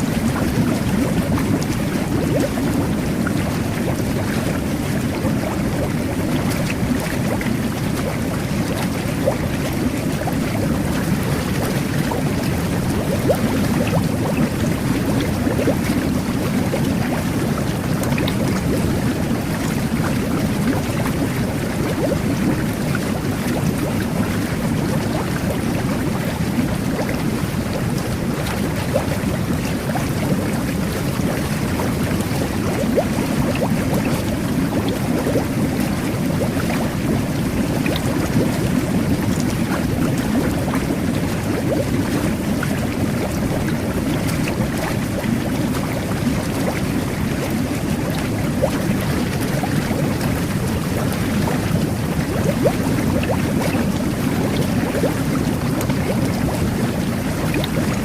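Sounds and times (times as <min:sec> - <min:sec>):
bubbles bursting crackles: 0:00.0 - 0:58.0
water jets churning in tub: 0:00.0 - 0:58.0.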